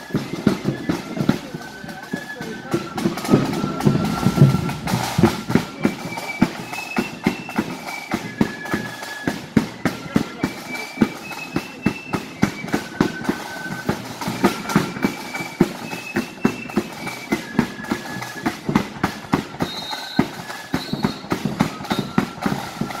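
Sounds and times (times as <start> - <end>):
flutes playing melody: 0.0 - 23.0
march drum beat: 0.0 - 23.0.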